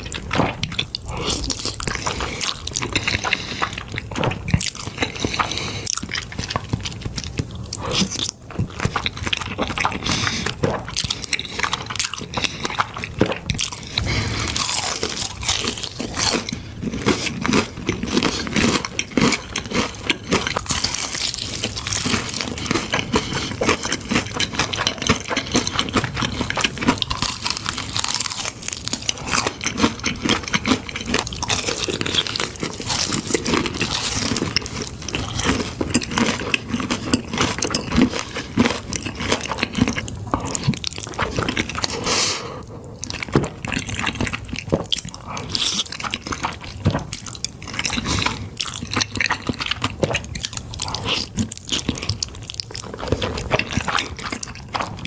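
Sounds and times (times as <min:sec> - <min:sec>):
person eating pasta: 0:00.0 - 0:55.0.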